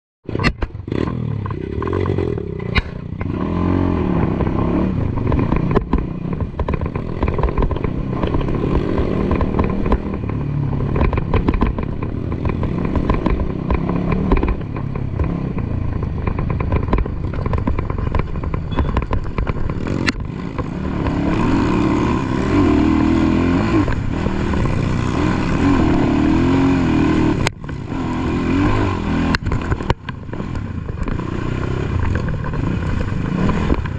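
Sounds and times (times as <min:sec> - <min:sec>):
dirt bike engine revving: 0:00.3 - 0:33.9
sharp knocks and clatter: 0:04.2 - 0:33.9.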